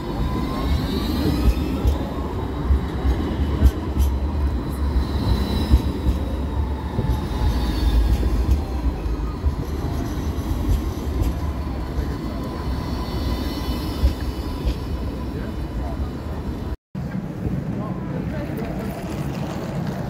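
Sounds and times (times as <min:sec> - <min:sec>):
tram rumbling past: 0:00.0 - 0:20.0.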